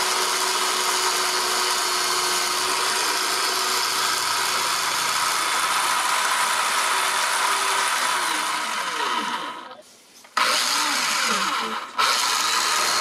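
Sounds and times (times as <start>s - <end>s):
drill press whining: 0.0s - 13.0s.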